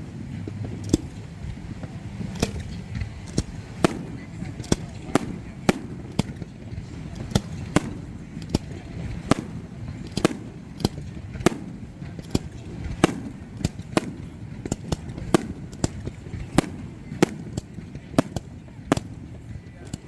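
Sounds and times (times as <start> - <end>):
fireworks bangs: 0.0 - 20.0
low background rumble: 0.0 - 20.0.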